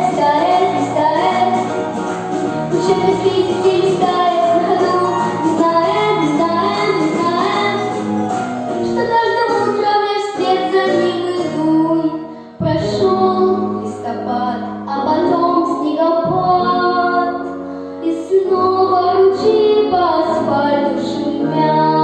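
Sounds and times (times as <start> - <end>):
girl singing: 0.0 - 1.7, 2.7 - 8.0, 8.8 - 22.0
pop backing track: 0.0 - 22.0.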